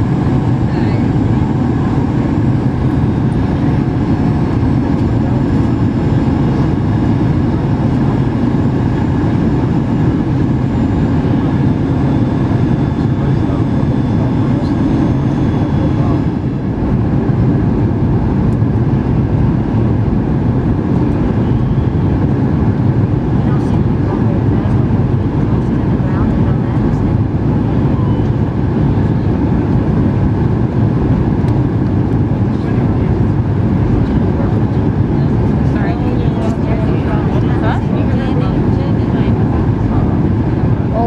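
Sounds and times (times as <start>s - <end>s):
airplane cabin rumble: 0.0s - 41.0s
faint turbofan whine: 0.0s - 41.0s.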